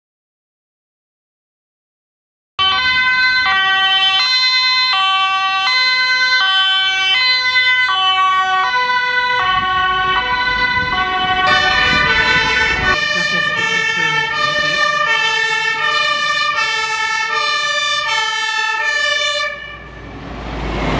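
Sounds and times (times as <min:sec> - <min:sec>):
ambulance two-tone siren: 0:02.6 - 0:20.2
second siren: 0:02.6 - 0:20.2
engine and tyre rumble: 0:02.6 - 0:20.9.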